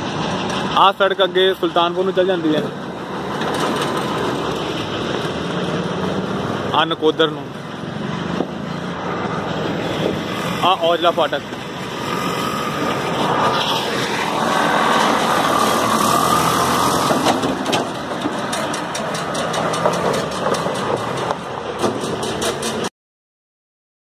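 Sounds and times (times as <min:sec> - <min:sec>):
vehicle engine and road noise: 0:00.0 - 0:22.9.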